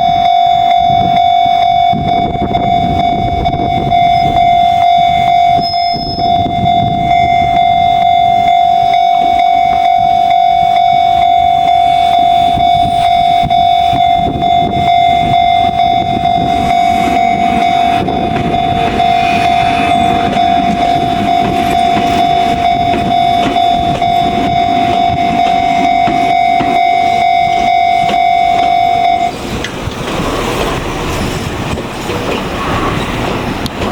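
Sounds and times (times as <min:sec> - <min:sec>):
level crossing bell: 0:00.0 - 0:29.4
train passing: 0:00.0 - 0:33.9.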